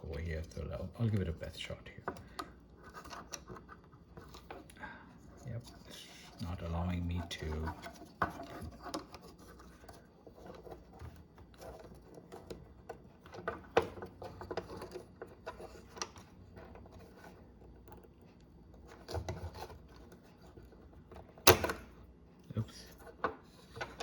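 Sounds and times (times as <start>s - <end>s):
plastic scraping and clicking: 0.1s - 22.0s, 22.9s - 24.0s.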